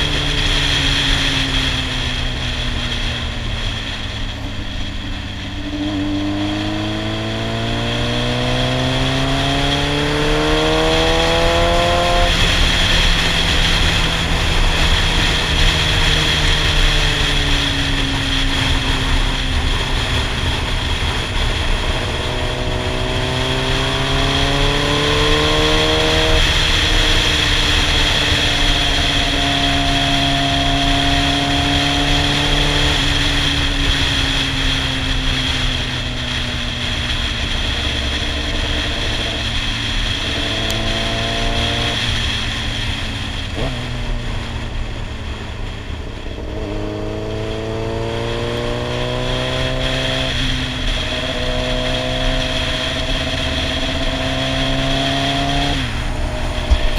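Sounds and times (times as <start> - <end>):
motorcycle engine accelerating: 0.0 - 56.9
wind rush on microphone: 0.0 - 56.9.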